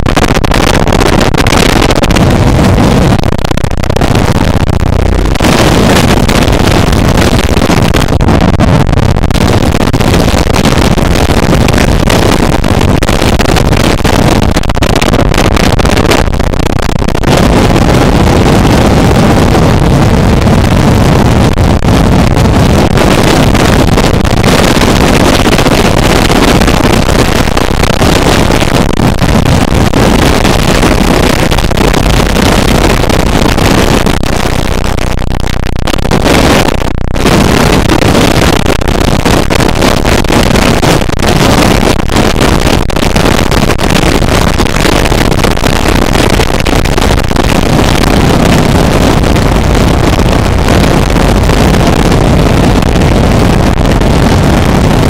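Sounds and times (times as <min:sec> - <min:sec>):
harsh distorted noise music: 0:00.0 - 0:55.0.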